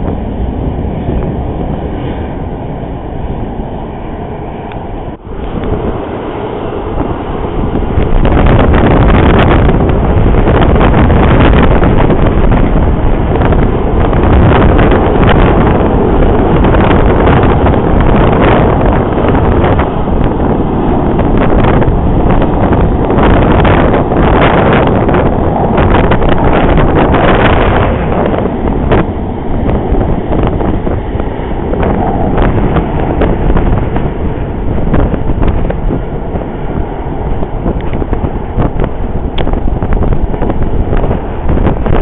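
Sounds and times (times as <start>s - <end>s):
jet airliner engines: 0.0s - 42.0s
wind buffeting microphone: 0.0s - 42.0s.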